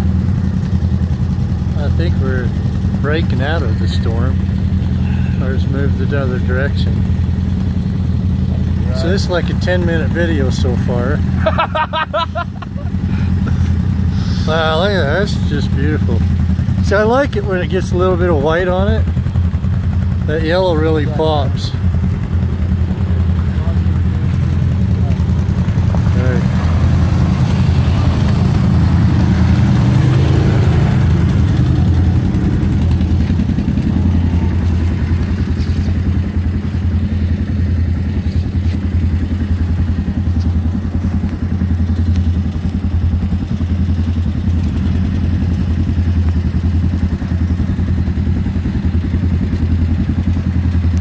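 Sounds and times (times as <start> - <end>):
atv engine running: 0.0 - 51.0.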